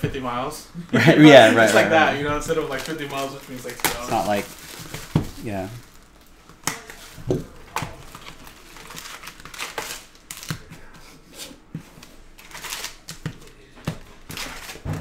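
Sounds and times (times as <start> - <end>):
papery rustling and crinkling: 2.2 - 15.0.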